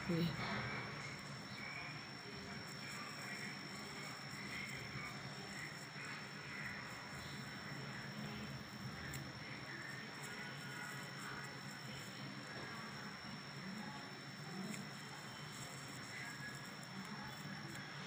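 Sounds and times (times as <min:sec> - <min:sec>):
thin high-pitched whine: 0:00.0 - 0:18.0.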